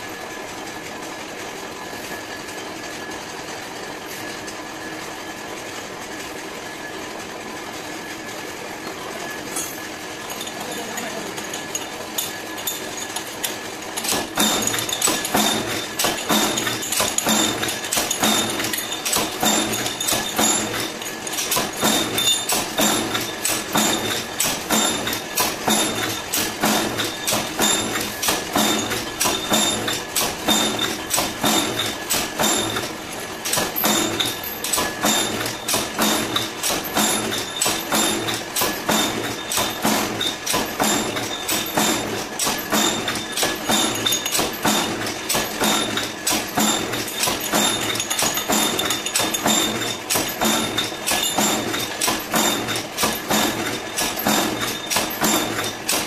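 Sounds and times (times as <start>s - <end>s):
mechanical hum: 0.0s - 56.0s
power press metallic clanks: 9.4s - 56.0s.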